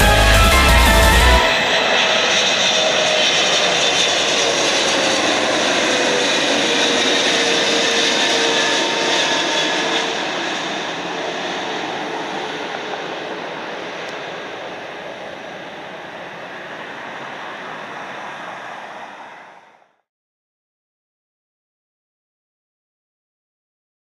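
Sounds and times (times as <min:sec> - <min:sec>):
jet engines with whine: 0:00.8 - 0:20.0.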